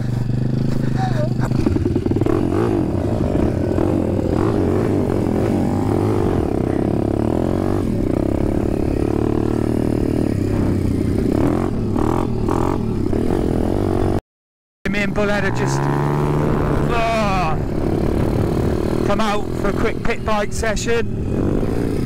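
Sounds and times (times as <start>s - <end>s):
dirt bike engine running: 0.0s - 14.2s, 14.9s - 22.0s.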